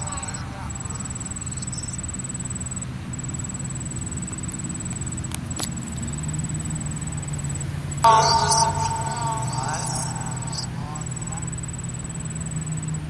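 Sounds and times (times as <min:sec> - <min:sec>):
high rapid ticking tone: 0:00.0 - 0:13.0
highway traffic rumble: 0:00.0 - 0:13.0.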